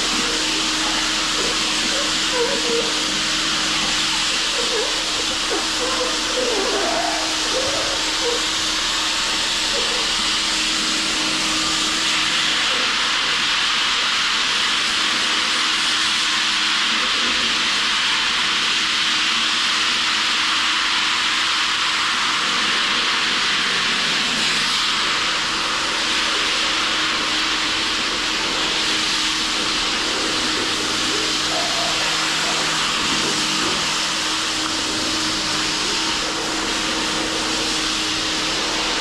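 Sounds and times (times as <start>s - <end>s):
floor sanding machine running: 0.0s - 39.0s.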